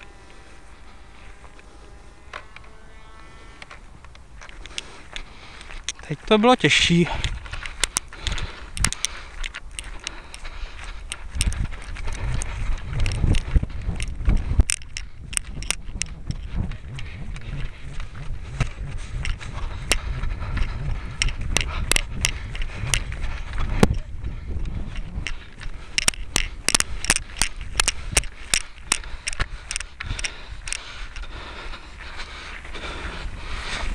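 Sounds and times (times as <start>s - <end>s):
sharp clicks and rustles: 0.0s - 2.8s, 3.4s - 33.9s
wind buffeting microphone: 0.0s - 33.9s.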